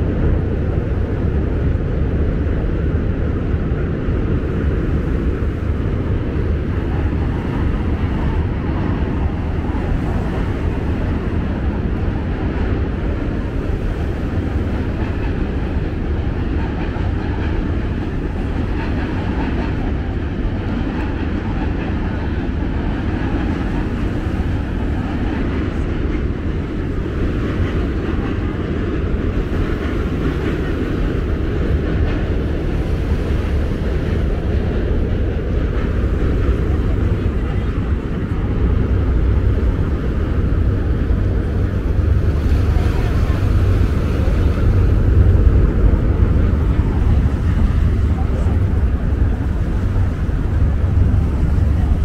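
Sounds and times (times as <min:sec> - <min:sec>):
city ambience rumble: 0:00.0 - 0:52.0.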